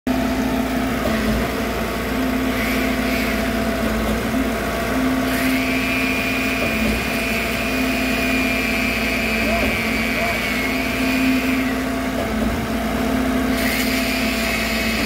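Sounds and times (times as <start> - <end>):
concrete pump running: 0.1 - 15.0.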